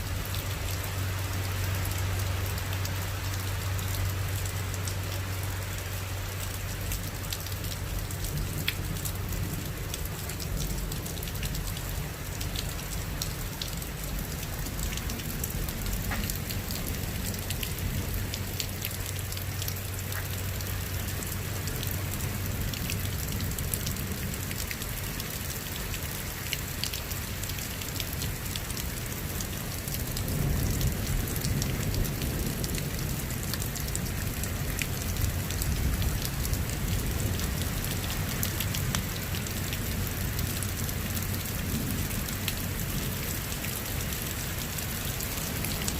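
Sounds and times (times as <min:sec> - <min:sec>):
rain falling: 0:00.0 - 0:45.9
raindrops pattering: 0:00.0 - 0:45.9.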